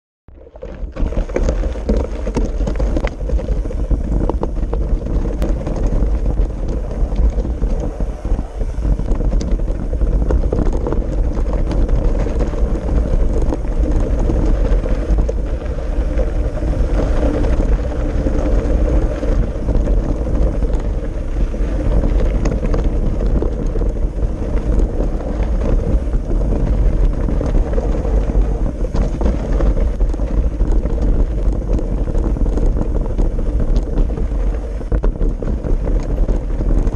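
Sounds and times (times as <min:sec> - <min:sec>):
tyres crunching over stones: 0:00.3 - 0:36.9
wind buffeting camera: 0:00.3 - 0:36.9
bike clicks and rattles: 0:00.4 - 0:36.9.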